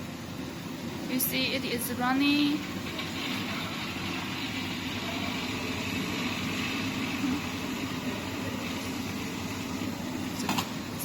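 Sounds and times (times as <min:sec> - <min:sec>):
dehumidifier fan airflow: 0:00.0 - 0:11.0.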